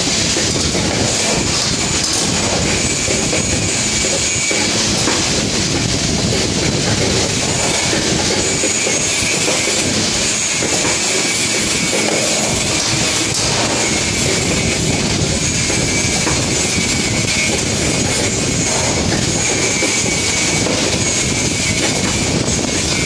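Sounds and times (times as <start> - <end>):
machine mechanical clatter: 0.0 - 23.0.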